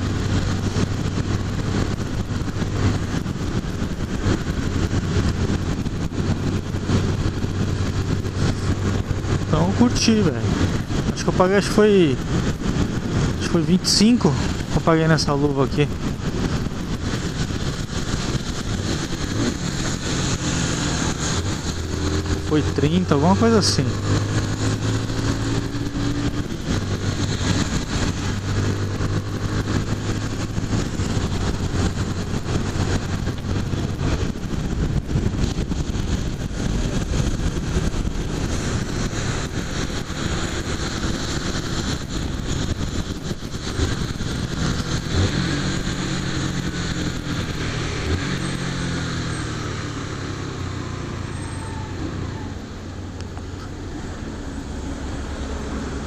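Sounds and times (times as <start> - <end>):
motorcycle engine running: 0.0 - 56.0
wind rush: 0.0 - 56.0.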